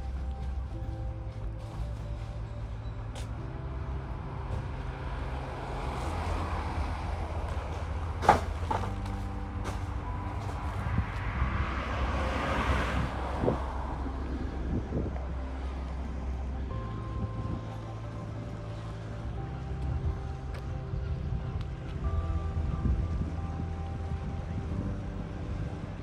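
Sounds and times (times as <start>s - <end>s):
low engine rumble: 0.0s - 26.0s
vehicle passing: 3.5s - 26.0s.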